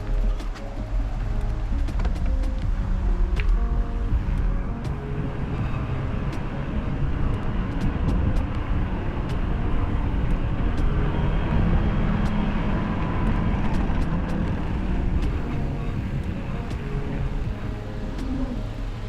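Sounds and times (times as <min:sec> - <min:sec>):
bike riding rumble: 0:00.0 - 0:19.0
wind buffeting microphone: 0:00.0 - 0:19.0.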